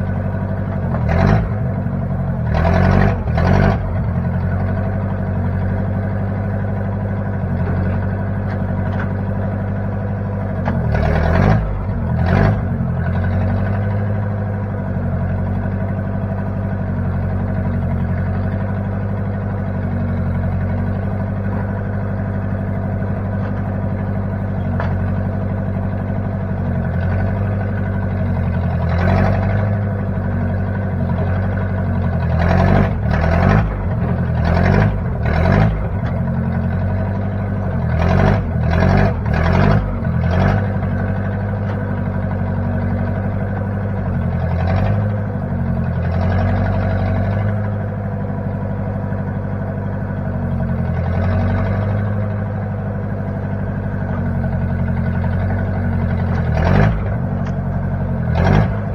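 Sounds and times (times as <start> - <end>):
backhoe engine running: 0.0 - 58.9.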